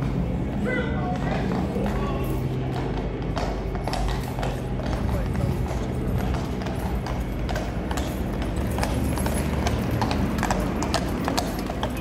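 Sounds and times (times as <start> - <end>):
hooves clip-clopping on paving: 0.0 - 12.0.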